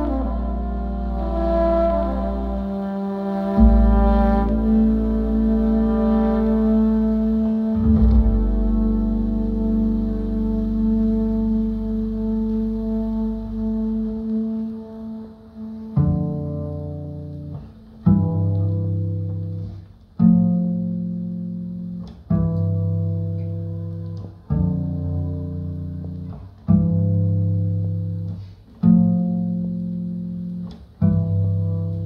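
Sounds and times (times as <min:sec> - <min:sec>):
plucked double bass: 0:00.0 - 0:32.0.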